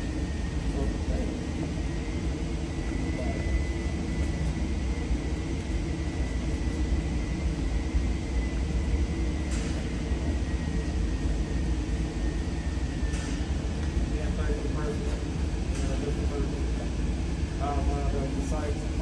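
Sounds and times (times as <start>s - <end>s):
faint high whine: 0.0s - 19.0s
ventilation system rumble: 0.0s - 19.0s.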